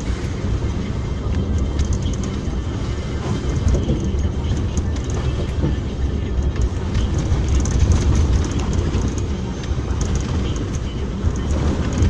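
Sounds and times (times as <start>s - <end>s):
car driving on wet road: 0.0s - 12.0s.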